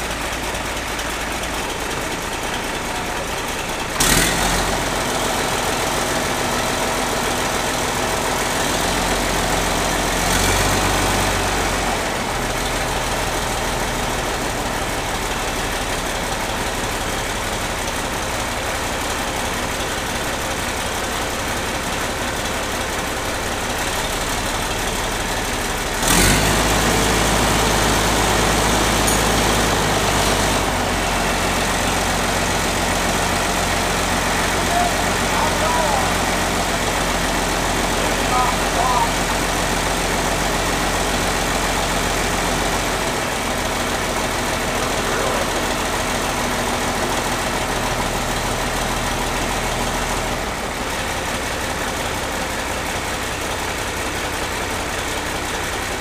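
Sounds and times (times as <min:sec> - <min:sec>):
diesel tractor engine idling: 0:00.0 - 0:56.0.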